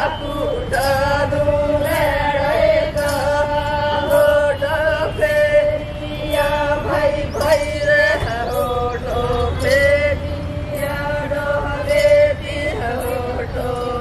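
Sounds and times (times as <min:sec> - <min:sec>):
voices singing folk melody: 0:00.0 - 0:14.0.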